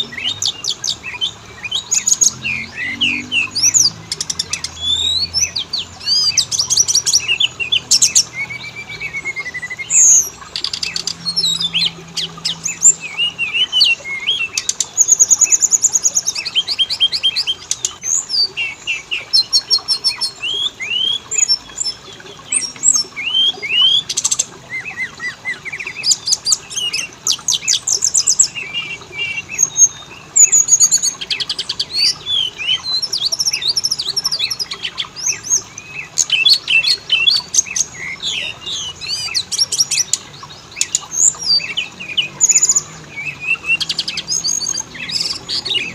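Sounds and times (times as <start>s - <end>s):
songbird whistling and trilling: 0.0s - 45.9s.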